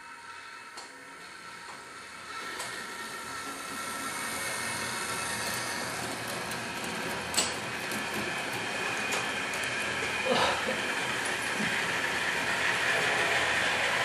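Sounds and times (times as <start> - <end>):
model train motors whirring: 0.0 - 14.0.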